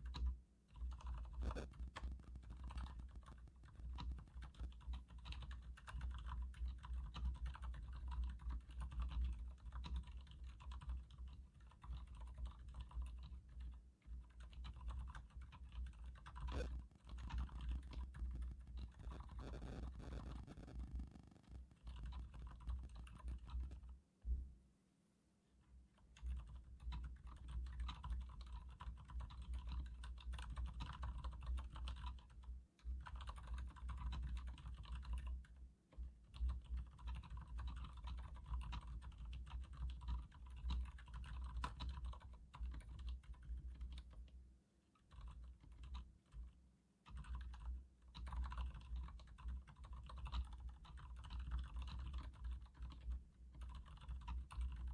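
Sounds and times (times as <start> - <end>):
mechanical keyboard typing: 0.0 - 23.9, 26.0 - 44.2, 45.0 - 54.9.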